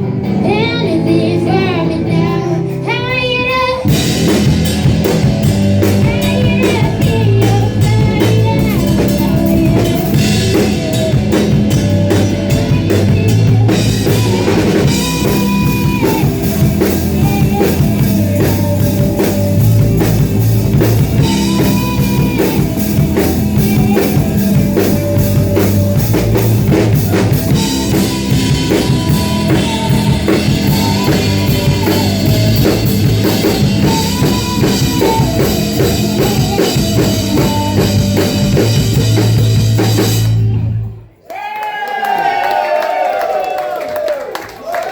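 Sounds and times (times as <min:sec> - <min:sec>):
guitar: 0:00.0 - 0:41.2
live rock band playing: 0:00.0 - 0:41.2
drum kit beat: 0:02.4 - 0:40.9.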